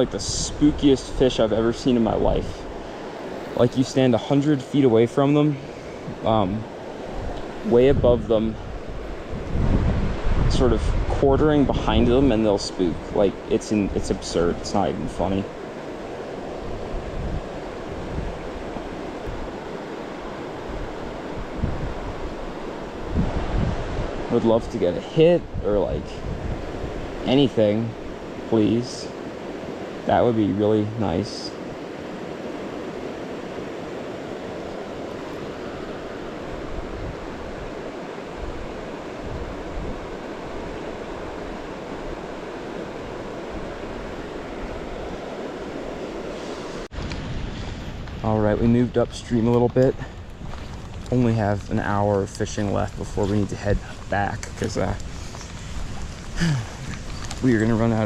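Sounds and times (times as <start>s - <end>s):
creek rushing: 0.0s - 58.0s
wind buffeting microphone: 0.0s - 58.0s.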